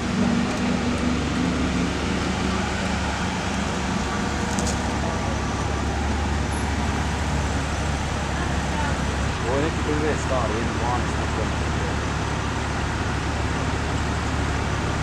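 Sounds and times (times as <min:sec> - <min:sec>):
car engine running: 0:00.0 - 0:15.0
outdoor noise: 0:00.0 - 0:15.0.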